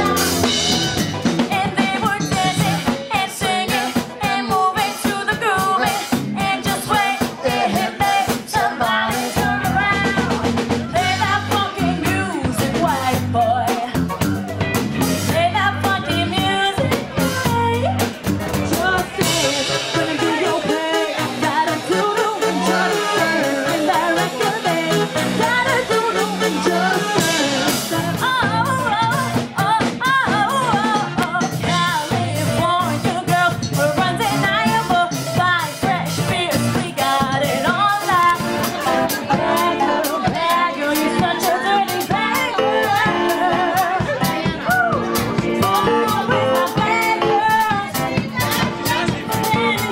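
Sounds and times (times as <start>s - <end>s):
person singing: 0.0s - 14.6s, 15.2s - 49.9s
drum kit: 0.0s - 49.9s
electric guitar: 0.0s - 49.9s.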